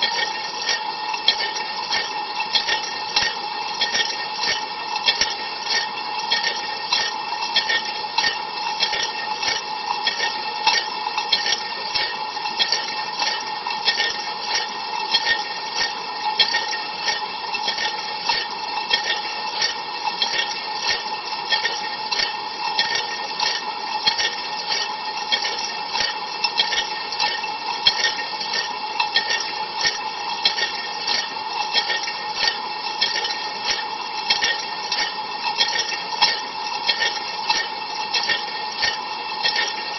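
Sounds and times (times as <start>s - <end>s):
dishwasher pump hum: 0.0s - 39.9s.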